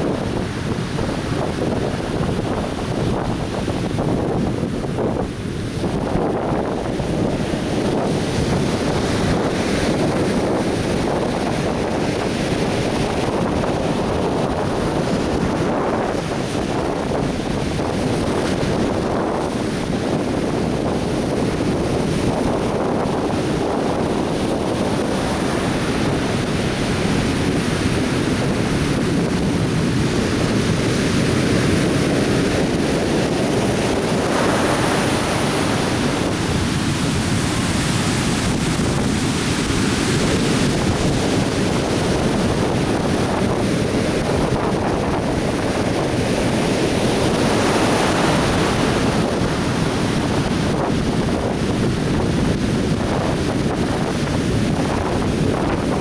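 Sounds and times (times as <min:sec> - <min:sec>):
surf breaking on a beach: 0:00.0 - 0:56.0
wind buffeting microphone: 0:00.0 - 0:56.0.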